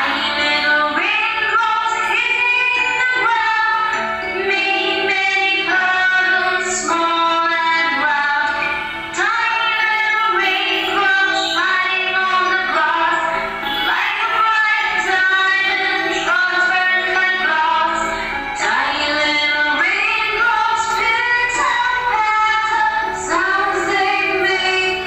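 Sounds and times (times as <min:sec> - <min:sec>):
music: 0:00.0 - 0:25.0
woman singing: 0:00.0 - 0:25.0.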